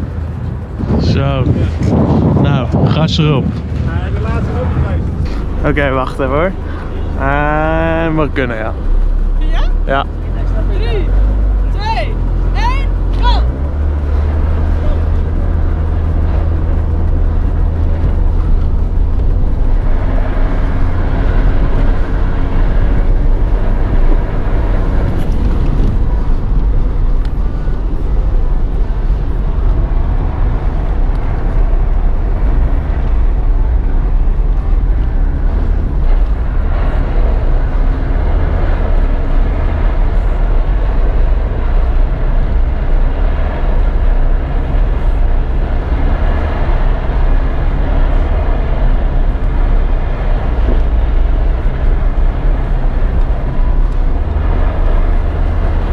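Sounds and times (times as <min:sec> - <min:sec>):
car engine under hard throttle: 0:00.0 - 0:55.9.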